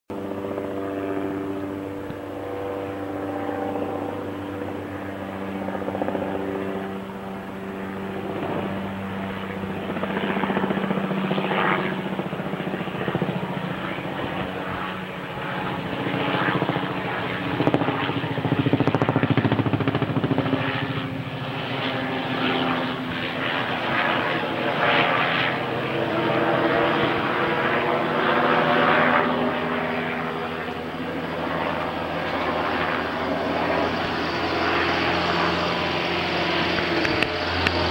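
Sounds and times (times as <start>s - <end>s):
helicopter flying overhead: 0.1s - 37.9s.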